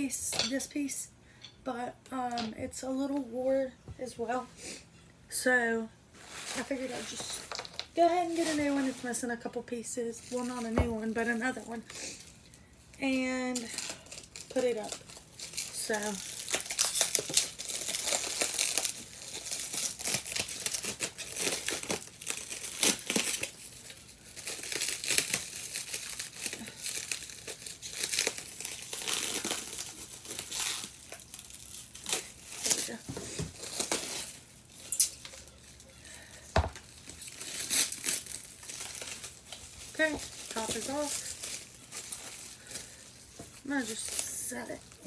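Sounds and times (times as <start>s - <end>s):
packaging crinkling and tearing: 6.2s - 9.2s, 10.2s - 45.0s.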